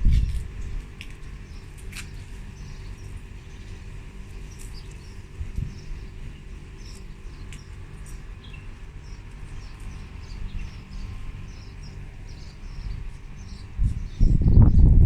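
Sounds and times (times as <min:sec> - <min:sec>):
steady low rumble: 0:00.0 - 0:15.0
small birds chirping: 0:00.1 - 0:15.0.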